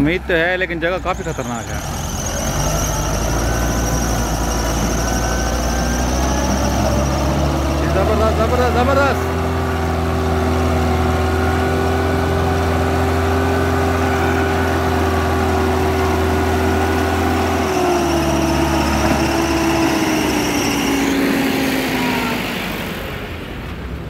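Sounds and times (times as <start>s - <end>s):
tractor diesel engine labouring: 0.0s - 24.0s.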